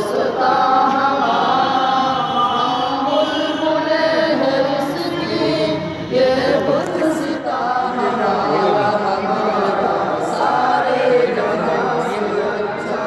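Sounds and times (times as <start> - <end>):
young voices singing in unison: 0.0 - 13.0.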